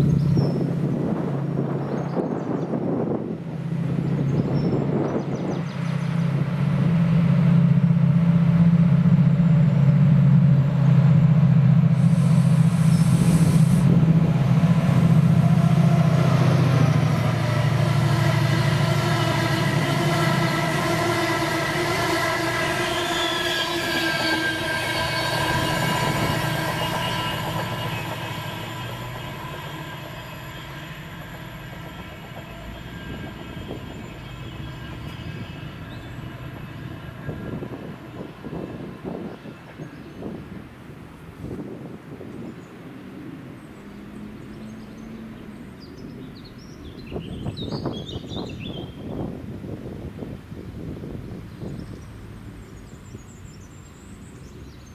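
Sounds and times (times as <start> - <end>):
diesel locomotive engine drone: 0.0 - 54.9
train coaches rolling past: 0.0 - 54.9.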